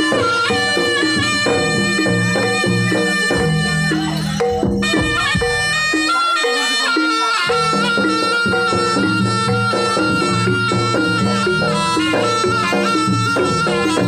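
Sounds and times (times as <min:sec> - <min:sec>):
drums: 0:00.0 - 0:14.0
shrill reed trumpet: 0:00.0 - 0:14.0.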